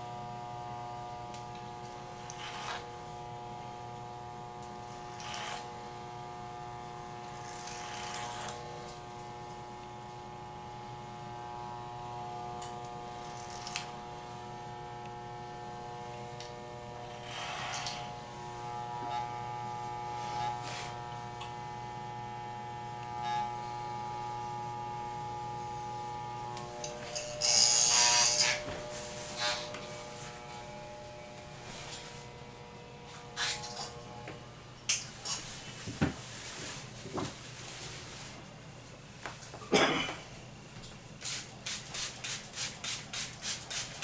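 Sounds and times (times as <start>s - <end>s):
electric hair clippers humming: 0.0s - 35.3s
clippers buzzing through hair: 0.0s - 35.6s, 41.2s - 44.0s.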